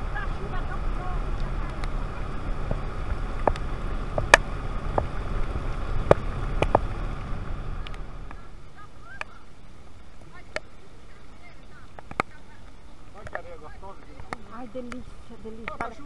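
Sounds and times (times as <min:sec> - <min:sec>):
outboard engine rumble: 0:00.0 - 0:16.0.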